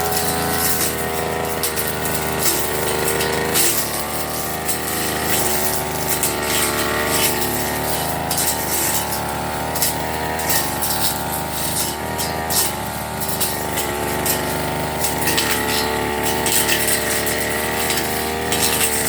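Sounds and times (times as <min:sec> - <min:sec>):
blade swishing through grass: 0:00.0 - 0:19.0
brush cutter engine: 0:00.0 - 0:19.0.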